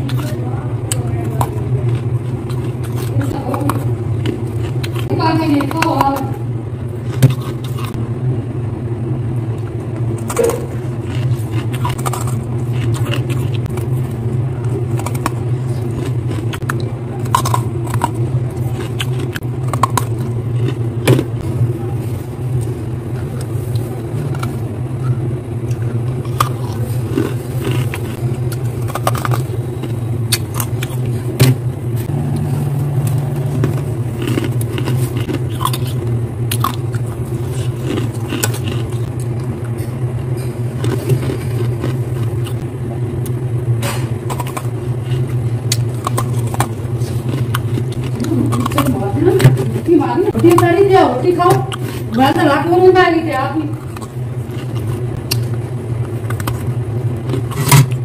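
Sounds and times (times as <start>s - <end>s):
frost crunching and scraping: 0.0s - 8.0s, 10.1s - 42.7s, 43.8s - 58.0s
freezer humming: 0.0s - 58.0s.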